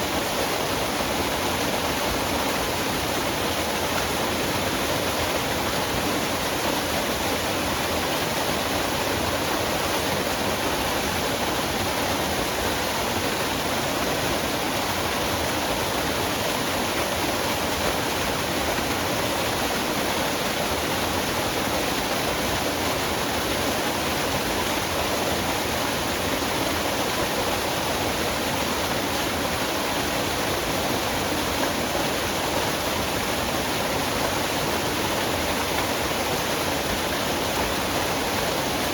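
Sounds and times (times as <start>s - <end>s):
waterfall splashing: 0.0s - 38.9s.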